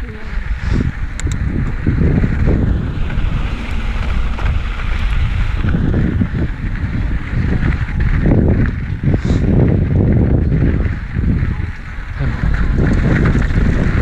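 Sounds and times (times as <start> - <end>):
heavy low rumble: 0.0 - 14.0
wind buffeting microphone: 0.0 - 14.0.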